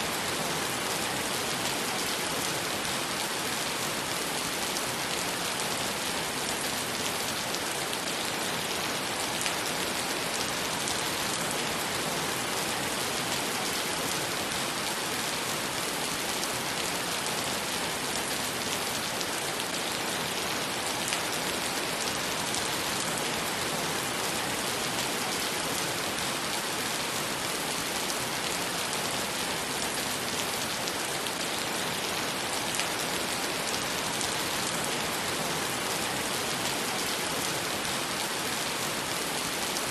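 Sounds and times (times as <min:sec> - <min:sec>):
rain falling on wet pavement: 0:00.0 - 0:39.9.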